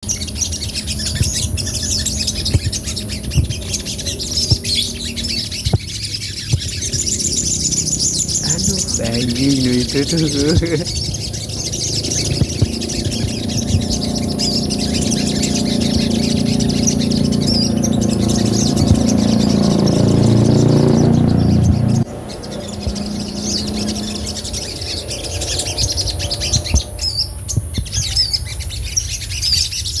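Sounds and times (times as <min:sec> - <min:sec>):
steady low hum: 0:00.0 - 0:29.3
sunbird chirping: 0:00.0 - 0:30.0.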